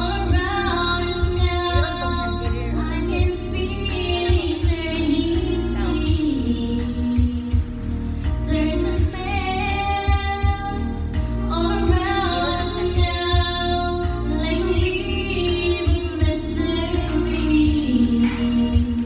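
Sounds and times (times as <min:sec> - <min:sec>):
backing music with low beat: 0:00.0 - 0:19.0
woman singing with vibrato: 0:00.0 - 0:19.0.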